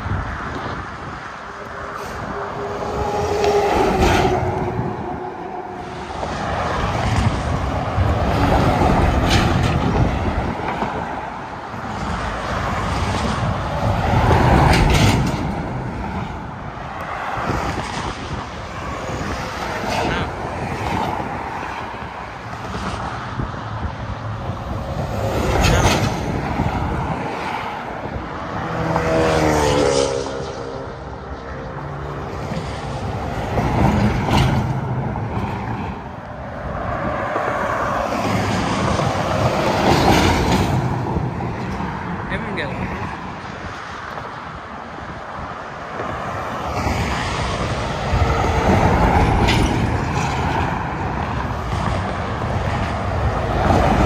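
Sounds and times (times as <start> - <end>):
trucks and cars passing: 0.0 - 54.0.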